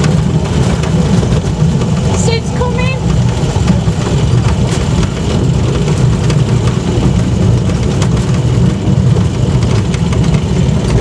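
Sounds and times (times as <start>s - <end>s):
rail vehicle engine rumble: 0.0s - 11.0s.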